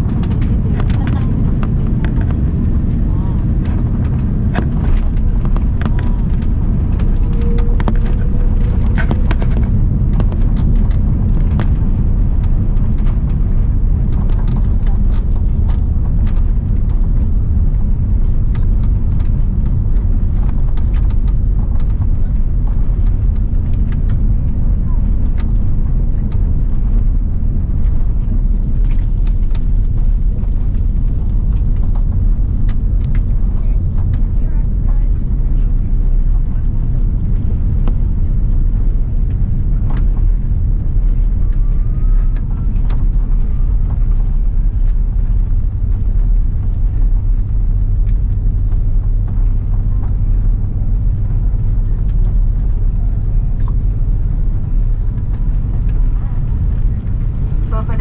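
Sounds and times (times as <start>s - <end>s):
airliner cabin low rumble: 0.0s - 58.0s
light clicks and rattles: 0.0s - 58.0s.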